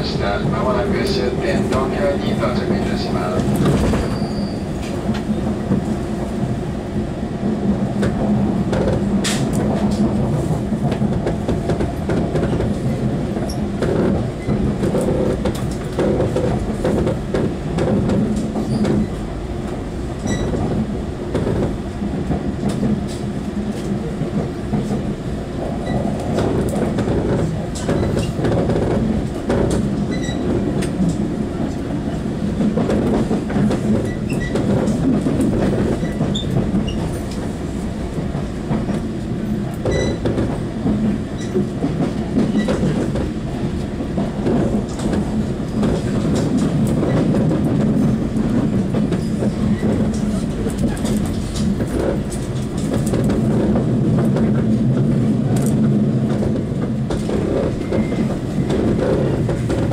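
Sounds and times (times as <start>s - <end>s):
train running gear humming: 0.0s - 59.9s.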